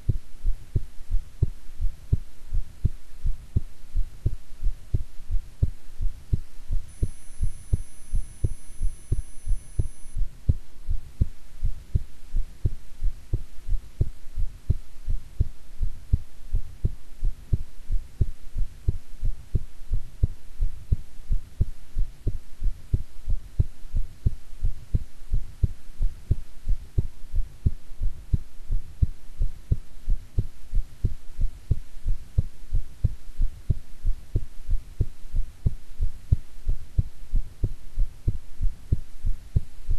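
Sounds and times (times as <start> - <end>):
faint low hum: 0.0 - 39.9
heartbeat: 0.0 - 39.9.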